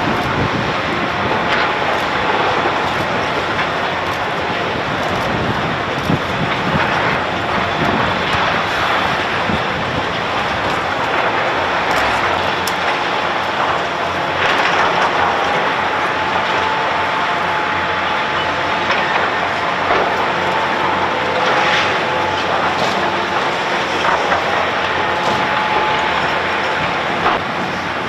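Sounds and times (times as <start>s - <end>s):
heavy construction machine running: 0.0s - 28.0s
thin steady whine: 0.0s - 28.0s.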